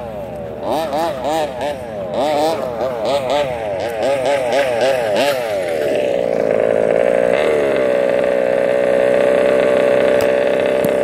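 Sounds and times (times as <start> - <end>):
small two-stroke engine idling: 0.0 - 11.0
engine throttle blip: 0.3 - 11.0.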